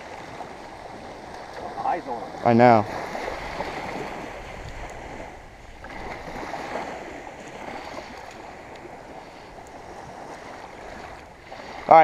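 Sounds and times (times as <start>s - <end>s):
small waves washing onto sand: 0.0s - 12.0s.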